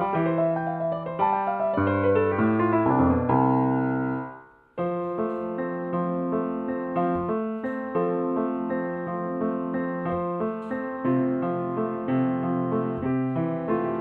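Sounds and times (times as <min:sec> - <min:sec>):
solo piano playing: 0:00.0 - 0:14.0.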